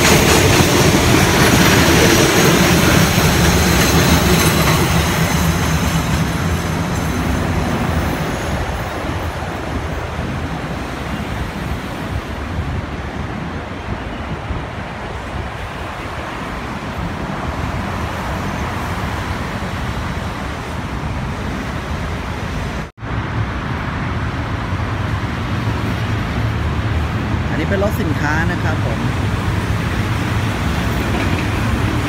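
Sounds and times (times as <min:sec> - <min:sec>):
diesel locomotive approaching: 0:00.0 - 0:32.0
diesel trains rumbling: 0:00.0 - 0:32.0
traffic rumble: 0:00.0 - 0:32.0.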